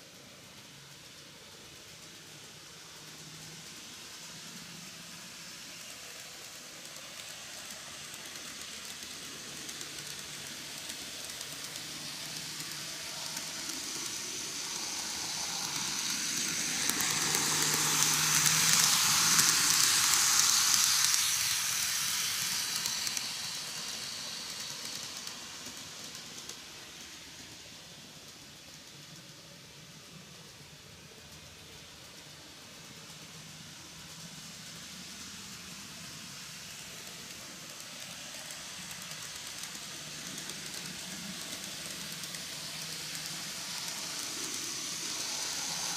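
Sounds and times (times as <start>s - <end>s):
model train motor whirring: 0.0s - 45.9s
wheels hissing on rails: 0.0s - 45.9s.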